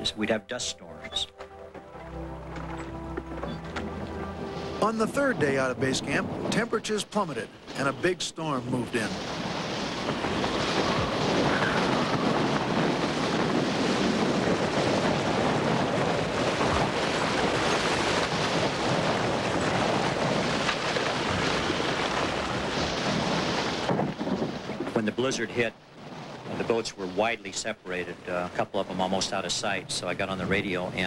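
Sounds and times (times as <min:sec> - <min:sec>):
blizzard wind gusting on microphone: 0:02.1 - 0:27.4.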